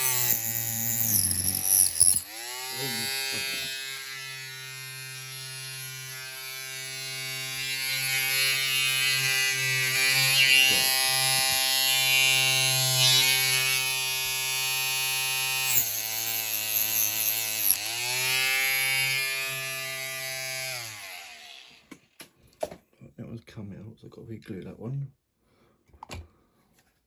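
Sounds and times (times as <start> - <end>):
rotary tool buzzing whine: 0.0 - 21.8.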